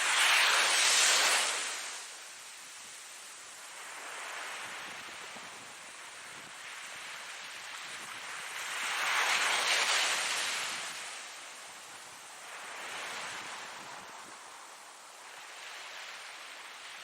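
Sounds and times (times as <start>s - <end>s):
ocean waves washing ashore: 0.0s - 17.0s.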